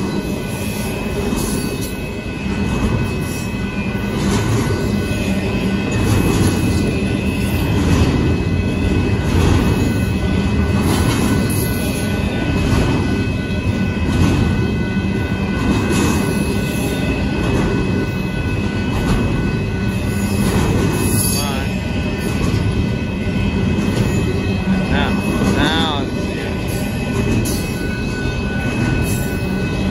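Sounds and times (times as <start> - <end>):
steel wheels rumbling on rails: 0.0 - 29.9.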